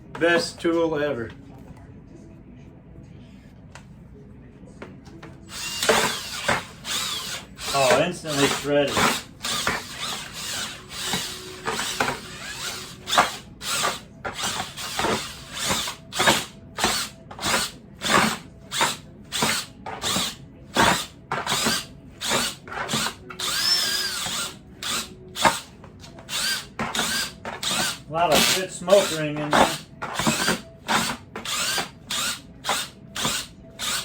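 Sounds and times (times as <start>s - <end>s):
electric drill whining: 5.5s - 34.0s.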